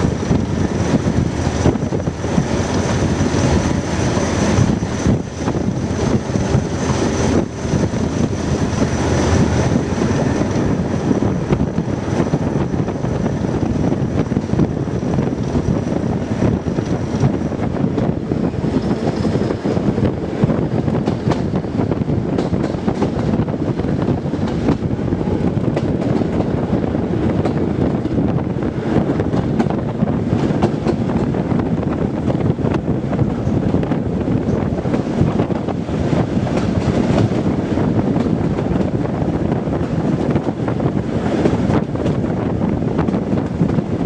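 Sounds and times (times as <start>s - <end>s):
diesel train rumbling: 0.0s - 44.0s
wind buffeting microphone: 0.0s - 44.0s.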